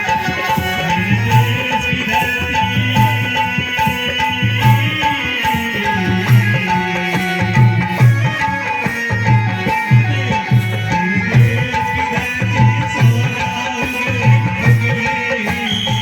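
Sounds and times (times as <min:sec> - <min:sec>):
music with repeating drum beat: 0:00.0 - 0:16.0.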